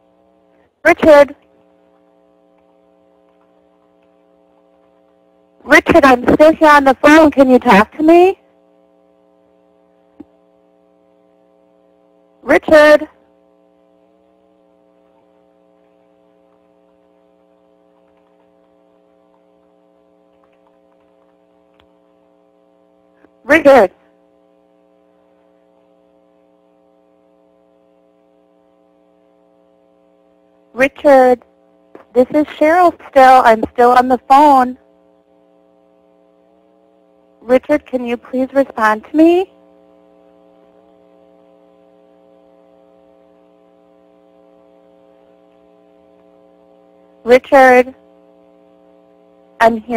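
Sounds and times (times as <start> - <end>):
faint electrical mains hum: 0.0 - 49.9.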